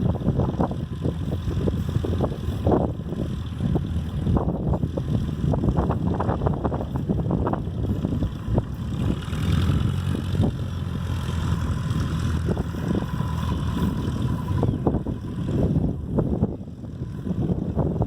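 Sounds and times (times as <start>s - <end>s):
light aircraft engine drone: 0.0s - 18.0s
wind buffeting microphone: 0.0s - 18.0s.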